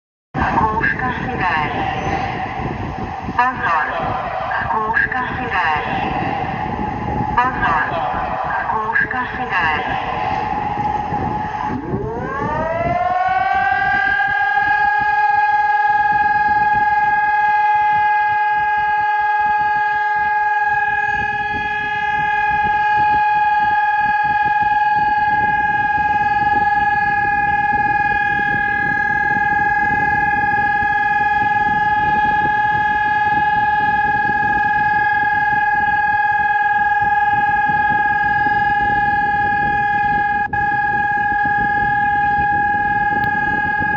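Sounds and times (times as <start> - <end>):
civil defence siren: 0.4 - 43.9.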